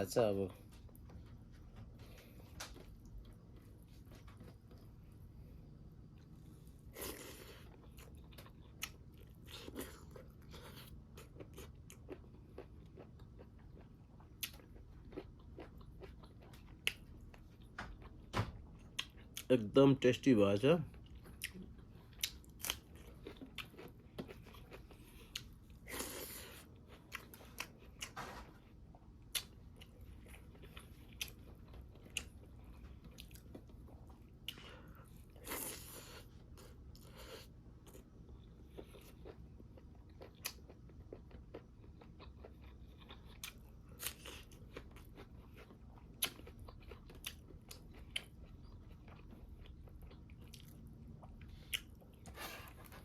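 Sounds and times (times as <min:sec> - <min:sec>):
chewing crunchy food: 0:00.6 - 0:19.6, 0:20.8 - 0:53.0.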